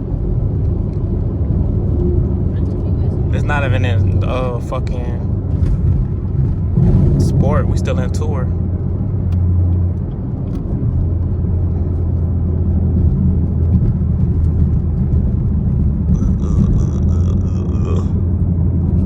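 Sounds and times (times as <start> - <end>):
car engine and exhaust drone: 0.0 - 19.0.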